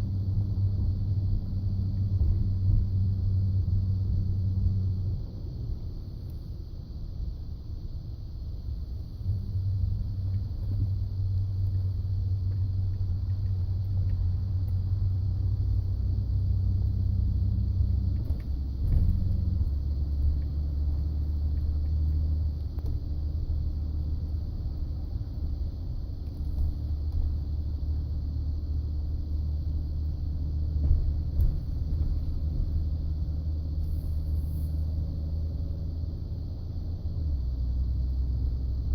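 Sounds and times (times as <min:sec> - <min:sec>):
truck low rumble: 0:00.0 - 0:38.9.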